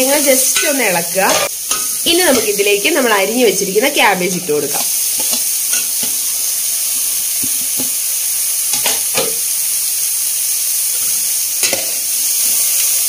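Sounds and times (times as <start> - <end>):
cabbage sizzling in hot oil: 0.0 - 13.0.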